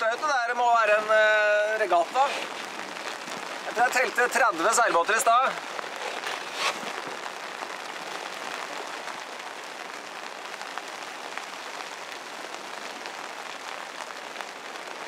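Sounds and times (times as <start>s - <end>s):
rain on canvas cover: 0.0s - 15.0s.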